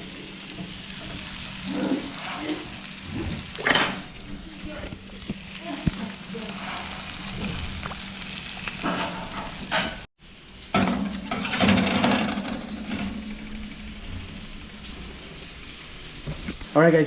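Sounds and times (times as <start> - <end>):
fish frying in a pan: 0.0 - 17.0.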